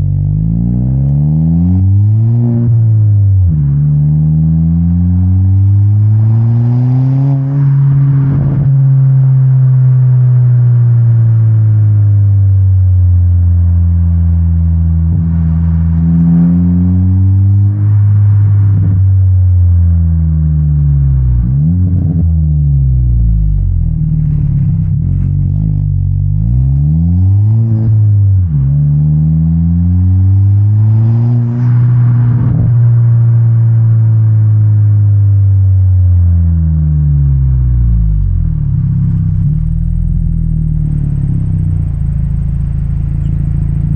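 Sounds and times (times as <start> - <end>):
car engine revving and shifting: 0.0 - 12.9, 13.6 - 19.1, 19.8 - 43.9.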